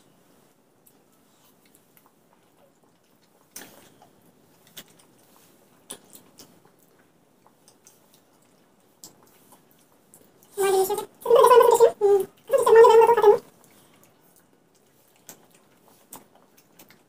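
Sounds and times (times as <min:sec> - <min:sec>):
chewing and mouth noises: 0:00.8 - 0:17.0.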